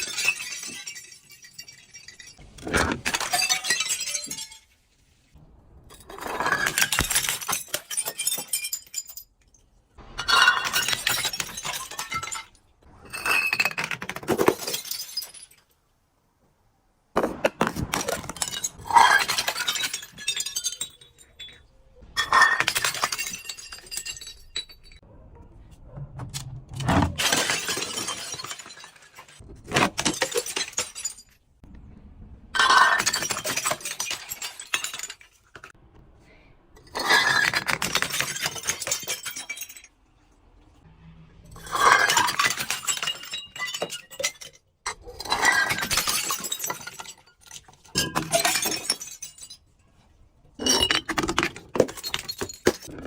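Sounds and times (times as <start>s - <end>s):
glass bottles smashing: 0.0s - 4.9s, 5.9s - 15.8s, 17.8s - 25.0s, 27.0s - 31.5s, 32.6s - 35.8s, 36.8s - 40.1s, 41.5s - 49.8s, 50.6s - 53.0s.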